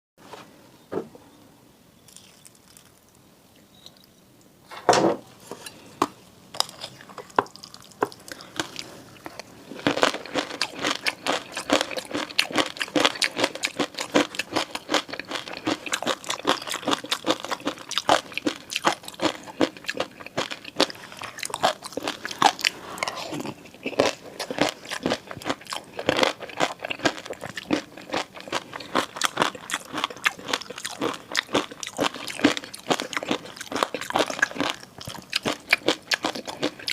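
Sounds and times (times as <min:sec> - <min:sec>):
crunchy chewing: 0:02.1 - 0:03.2, 0:06.6 - 0:36.9.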